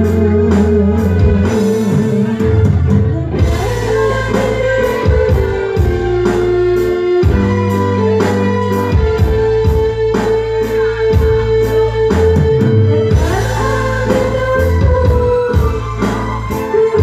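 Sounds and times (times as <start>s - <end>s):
keyboard notes: 0.0s - 17.0s
steady drum beat: 0.0s - 17.0s.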